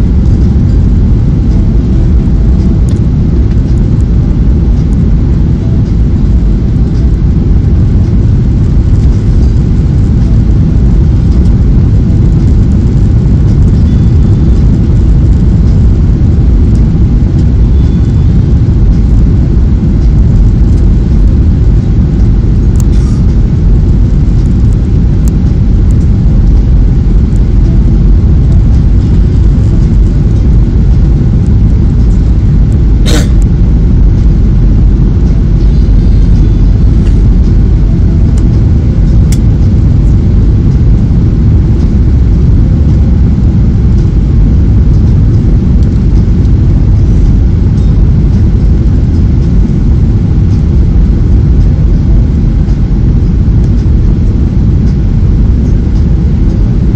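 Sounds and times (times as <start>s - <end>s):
airplane cabin engine rumble: 0.0s - 56.9s.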